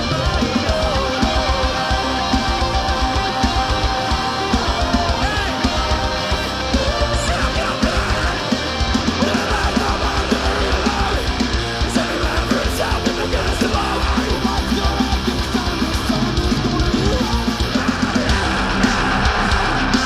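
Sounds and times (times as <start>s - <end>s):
heavy metal band playing: 0.0s - 20.0s.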